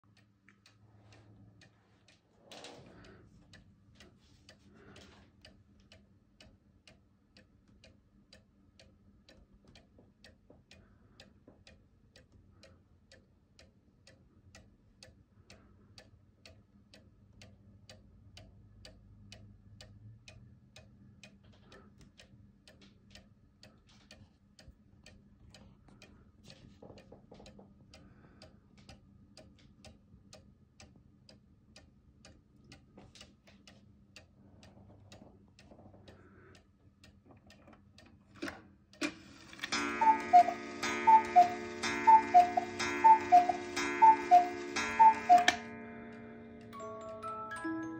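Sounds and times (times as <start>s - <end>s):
clock ticking faintly: 0.0s - 47.7s.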